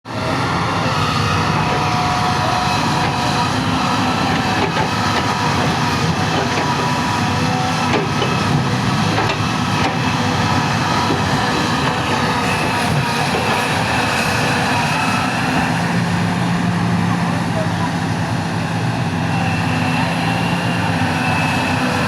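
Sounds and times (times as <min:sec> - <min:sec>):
excavator diesel engine running: 0:00.1 - 0:22.0.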